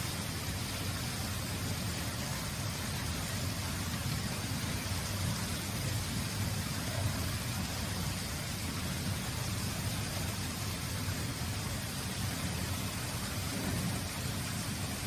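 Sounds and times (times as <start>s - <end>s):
hiss: 0.0s - 15.0s.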